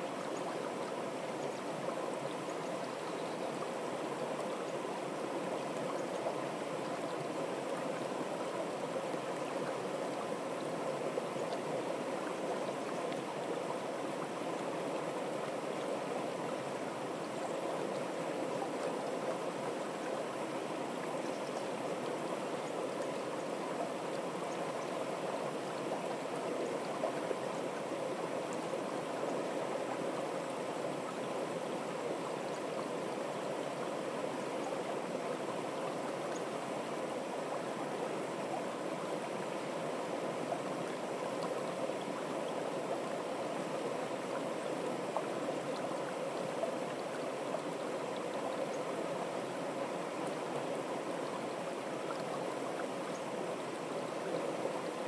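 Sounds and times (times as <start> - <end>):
stream rushing over small steps: 0.0 - 55.0.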